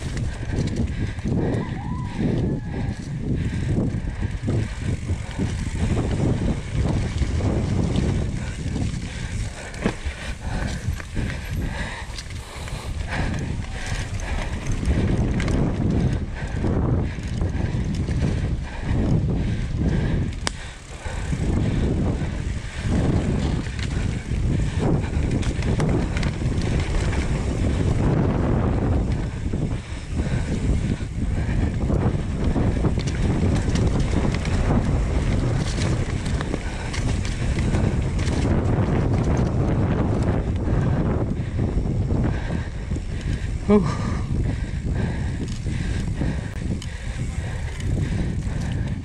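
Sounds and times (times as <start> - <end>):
bike rattling and knocking: 0.0 - 49.0
bike tyres rumbling over dirt: 0.0 - 49.0
wind buffeting microphone: 0.0 - 49.0.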